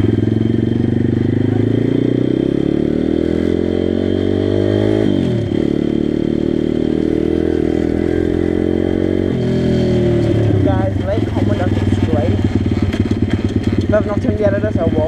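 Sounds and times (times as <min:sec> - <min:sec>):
pit bike engine running: 0:00.0 - 0:15.0.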